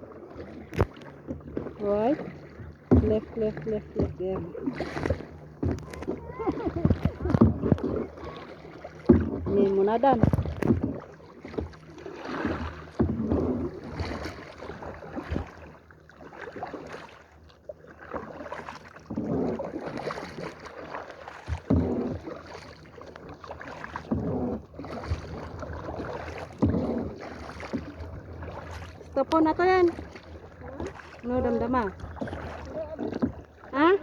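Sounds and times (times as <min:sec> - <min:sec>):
kayak paddles dipping in water: 0:00.0 - 0:34.0
water sloshing: 0:00.0 - 0:34.0.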